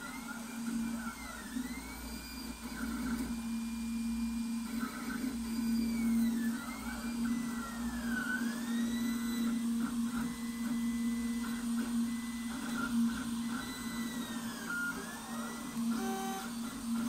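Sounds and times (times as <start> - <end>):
stepper motors whining: 0.1 - 17.0.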